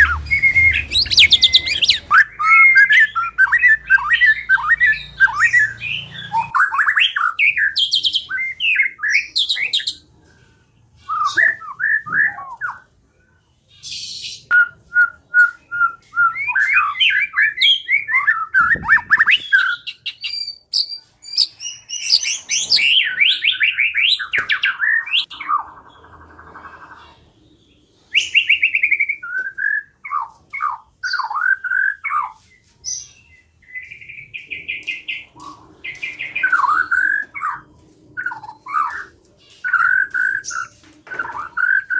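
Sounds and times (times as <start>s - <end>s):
bird singing whistled song: 0.0s - 10.0s, 11.0s - 12.9s, 13.8s - 25.7s, 28.1s - 41.9s.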